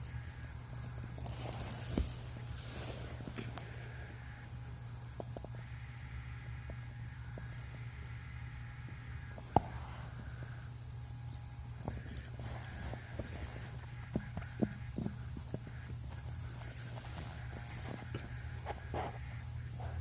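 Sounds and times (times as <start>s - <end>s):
collar bell jingling: 0.0s - 5.4s, 7.1s - 20.0s.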